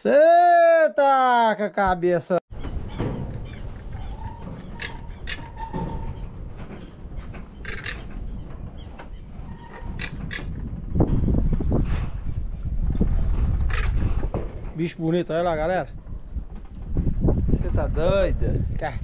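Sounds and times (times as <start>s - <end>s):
wind rumble on microphone: 2.6s - 19.0s.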